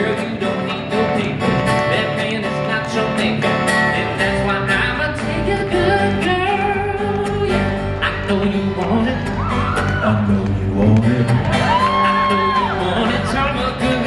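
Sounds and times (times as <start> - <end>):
electric guitar: 0.0 - 14.0
man singing: 0.0 - 14.0
strummed acoustic guitars: 0.0 - 14.0.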